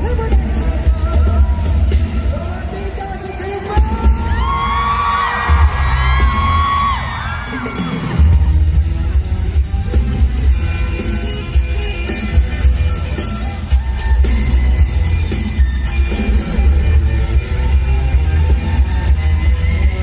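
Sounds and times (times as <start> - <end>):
live pop-rock band: 0.0 - 20.0.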